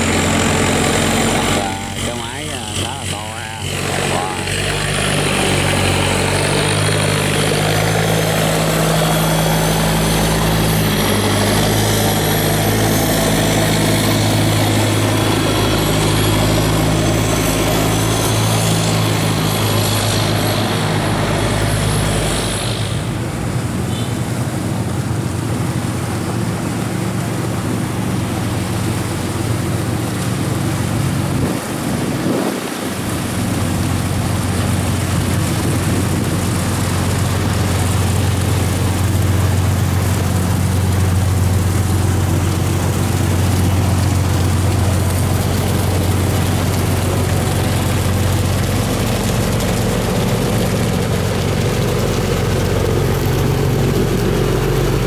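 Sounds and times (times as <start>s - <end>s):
boat engine droning: 0.0s - 55.0s
churned water wash: 0.0s - 55.0s.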